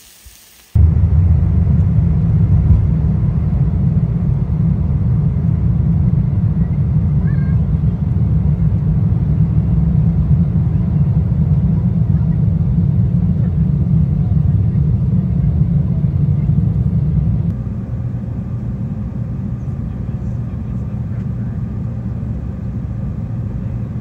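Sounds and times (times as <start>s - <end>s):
jet engines rumbling in cabin: 0.7s - 24.0s.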